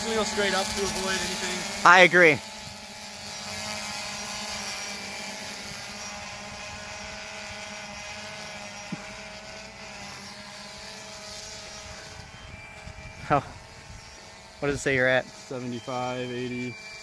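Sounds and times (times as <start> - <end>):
drone propellers humming: 0.0 - 17.0.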